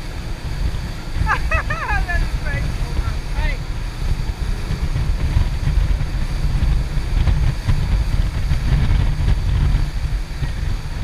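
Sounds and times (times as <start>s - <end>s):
hiss of churning wake: 0.0s - 11.0s
outboard motor running: 0.0s - 11.0s
wind buffeting microphone: 0.0s - 11.0s.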